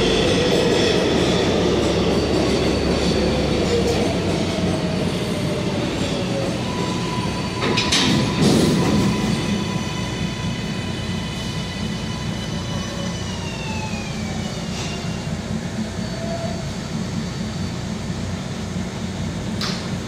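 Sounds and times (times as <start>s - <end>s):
electric train whine: 0.0s - 20.0s.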